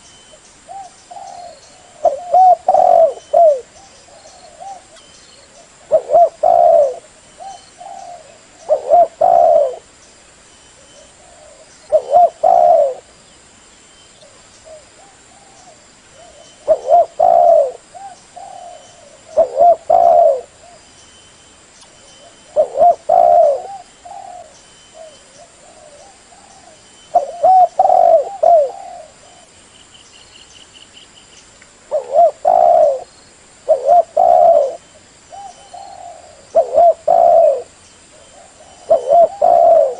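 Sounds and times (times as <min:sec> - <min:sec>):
dove cooing: 0:00.7 - 0:09.9, 0:10.8 - 0:13.1, 0:14.2 - 0:20.8, 0:22.2 - 0:29.5, 0:31.9 - 0:39.9.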